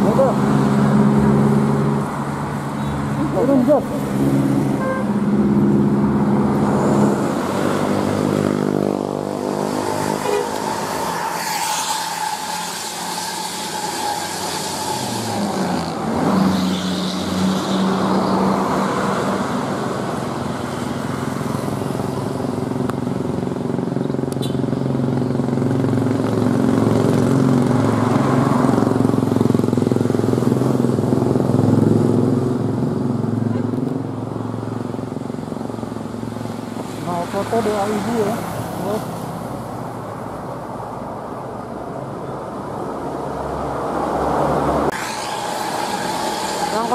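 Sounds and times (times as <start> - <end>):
heavy bus engines: 0.0 - 11.4, 12.4 - 46.9
road traffic passing: 0.0 - 46.9.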